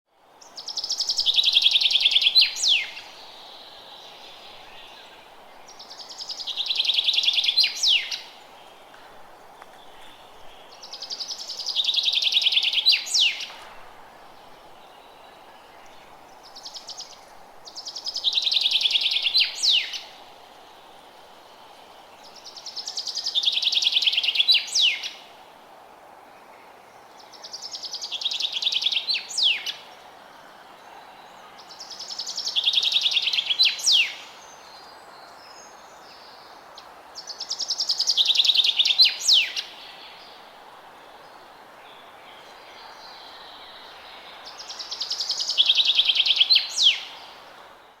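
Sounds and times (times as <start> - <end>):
faint background hiss: 0.1 - 48.0.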